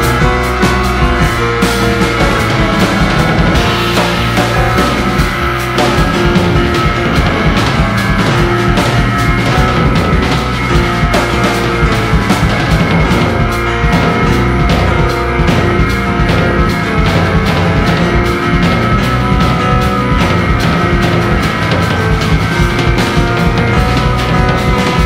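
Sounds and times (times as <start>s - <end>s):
driving drum beat: 0.0s - 25.0s
electric bass: 0.0s - 25.0s
piano and keyboards: 0.0s - 25.0s.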